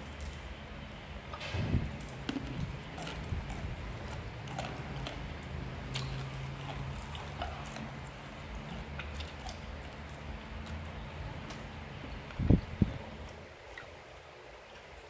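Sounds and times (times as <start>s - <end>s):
low steady hum: 0.0s - 15.0s
person chewing with crunches: 1.9s - 15.0s.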